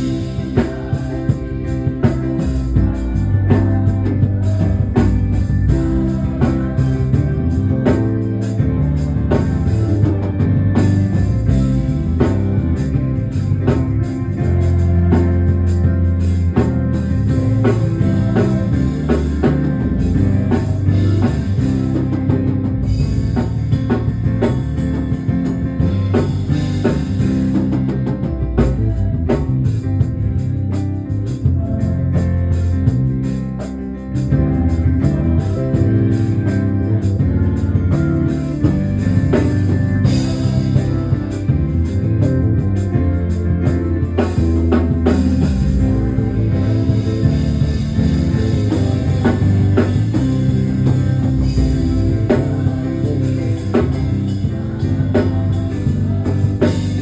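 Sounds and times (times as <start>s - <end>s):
deep bass guitar notes: 0.0s - 57.0s
drum kit steady beat: 0.0s - 57.0s
guitar: 0.0s - 57.0s.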